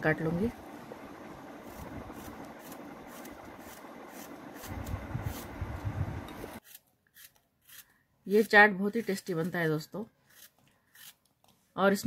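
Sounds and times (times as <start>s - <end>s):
knife cutting apple: 1.6s - 11.3s.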